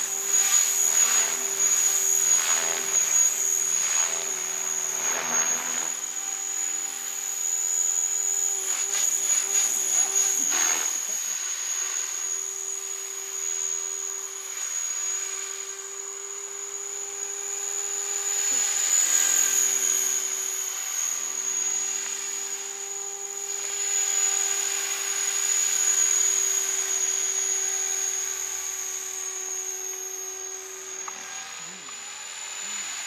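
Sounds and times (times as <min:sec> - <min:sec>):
remote-control helicopter whine: 0:00.0 - 0:33.0.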